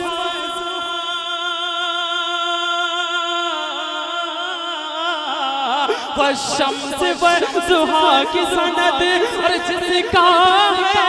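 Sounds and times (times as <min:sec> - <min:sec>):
man singing a long note: 0:00.0 - 0:11.0.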